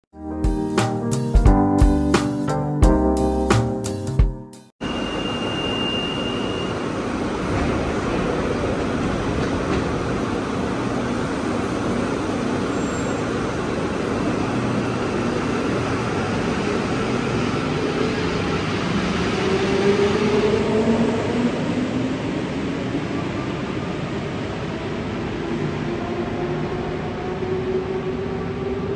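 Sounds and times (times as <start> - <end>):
metro train rushing: 4.8 - 28.9.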